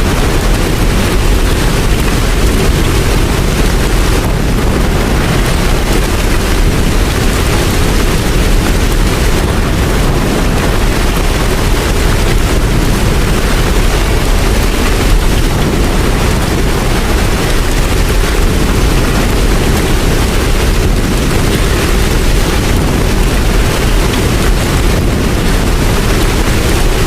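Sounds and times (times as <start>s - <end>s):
heavy rain falling: 0.0s - 27.0s
low rumble: 0.0s - 27.0s.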